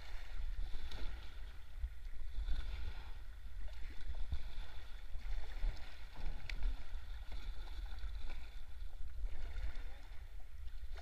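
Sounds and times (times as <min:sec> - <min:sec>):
river water rippling and gurgling: 0:00.0 - 0:11.0
small water splashes: 0:00.0 - 0:11.0.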